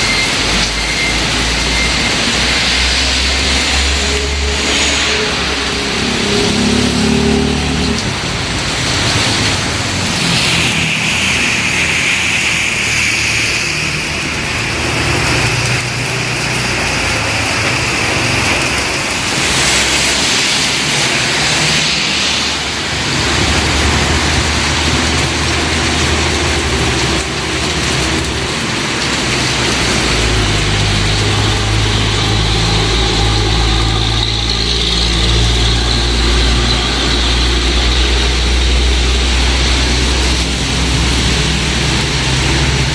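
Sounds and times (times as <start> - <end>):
rain hiss: 0.0 - 42.9
vehicle engine humming: 0.0 - 42.9.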